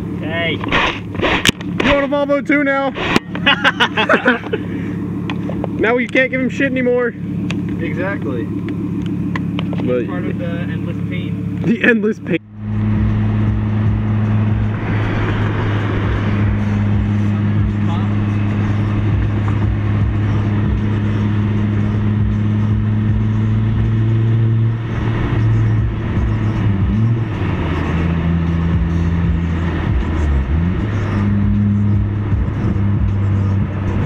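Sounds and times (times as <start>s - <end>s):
car engine drone: 0.0s - 34.0s
road noise inside car: 0.0s - 34.0s.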